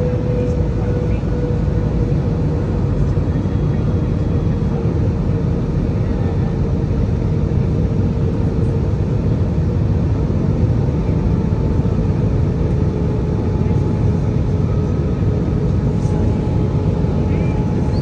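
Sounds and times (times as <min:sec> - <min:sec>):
airliner cabin engine and airflow noise: 0:00.0 - 0:18.0.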